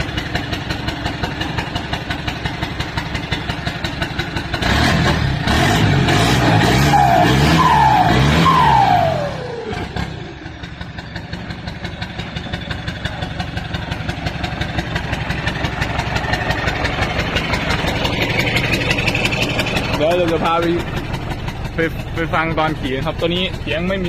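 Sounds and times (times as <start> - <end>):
motorcycle engine revving and idling: 0.0 - 24.0.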